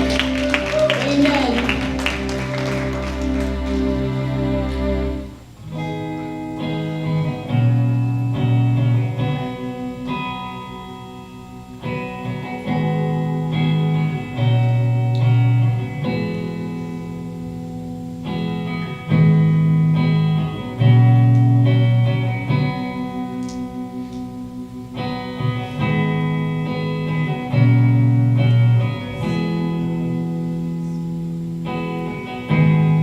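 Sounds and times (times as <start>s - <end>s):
electric guitar chords: 0.0s - 33.0s
low bass notes: 0.0s - 33.0s.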